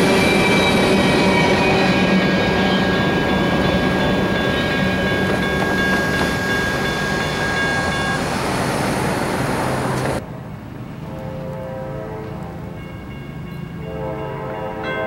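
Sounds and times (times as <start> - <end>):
crossing signal bell ringing: 0.0 - 10.2, 12.2 - 15.0
passing train noise: 0.0 - 15.0.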